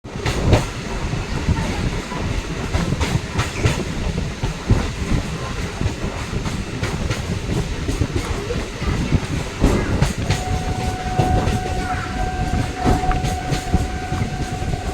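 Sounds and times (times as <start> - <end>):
train rumbling: 0.1 - 14.9.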